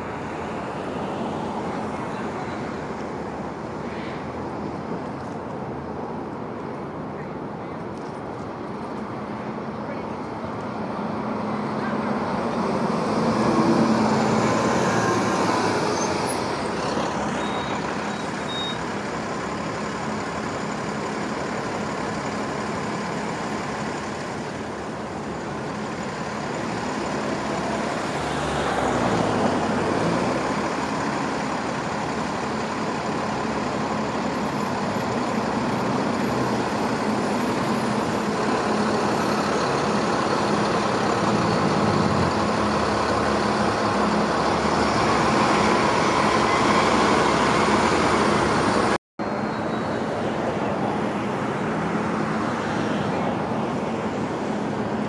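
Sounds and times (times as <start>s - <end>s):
bus passing: 0.0s - 55.0s
road traffic passing: 0.0s - 55.0s.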